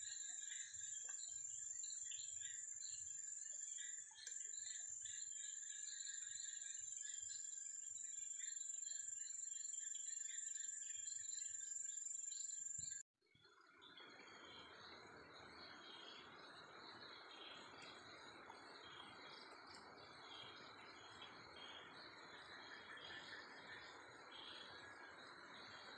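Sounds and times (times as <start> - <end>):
crickets and insects chirping: 0.0 - 13.0, 13.8 - 25.9.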